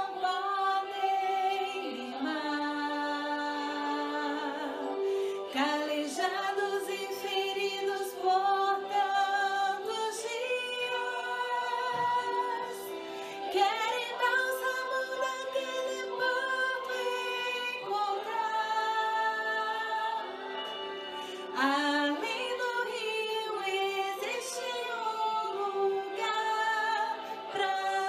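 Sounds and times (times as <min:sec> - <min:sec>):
woman singing gospel song: 0:00.0 - 0:20.8, 0:21.4 - 0:28.0.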